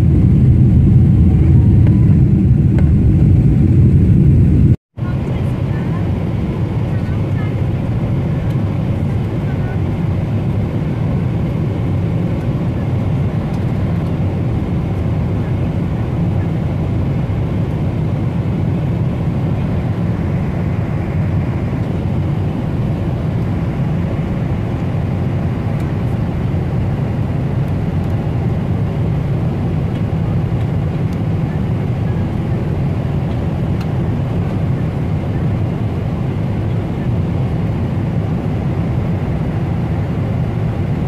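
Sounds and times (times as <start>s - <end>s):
airliner cabin engine rumble: 0.0s - 41.0s.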